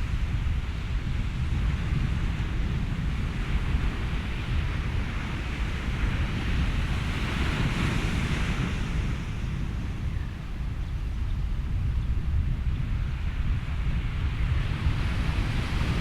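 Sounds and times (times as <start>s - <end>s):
ocean surf: 0.0s - 10.8s, 12.9s - 16.0s
wind: 0.0s - 16.0s.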